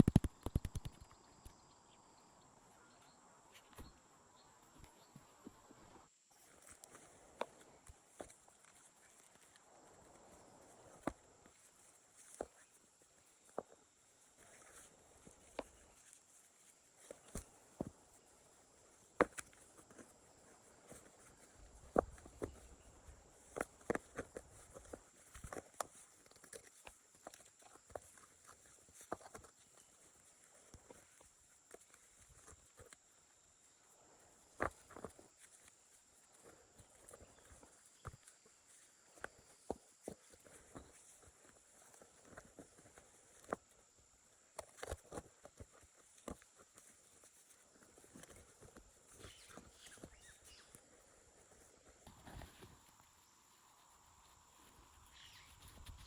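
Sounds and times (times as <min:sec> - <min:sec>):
crackles and light knocks: 0:00.0 - 0:01.9, 0:02.8 - 0:04.0, 0:04.6 - 0:56.0.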